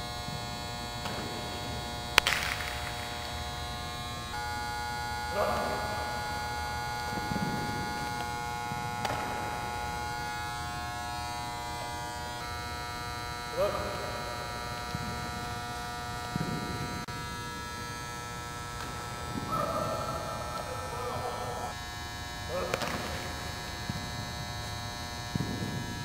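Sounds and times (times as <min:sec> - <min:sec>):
electrical hum with buzz: 0:00.0 - 0:26.0.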